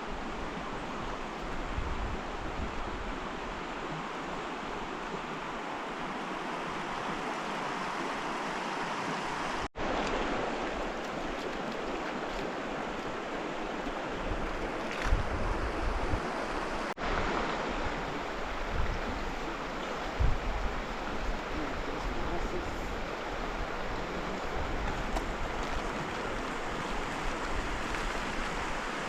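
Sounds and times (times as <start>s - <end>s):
river water rushing: 0.0s - 29.0s
wind rumbling on microphone: 0.1s - 3.9s, 9.1s - 29.0s.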